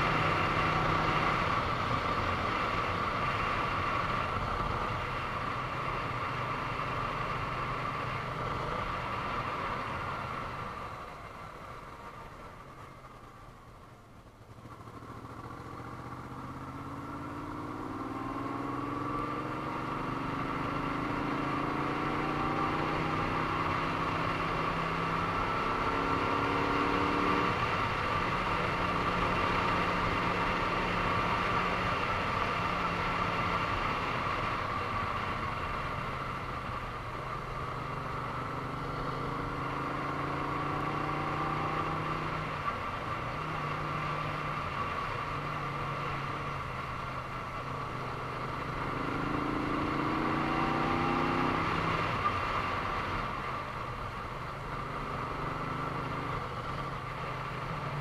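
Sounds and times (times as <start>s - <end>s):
motorcycle engine revving: 0.0s - 13.3s, 14.4s - 58.0s.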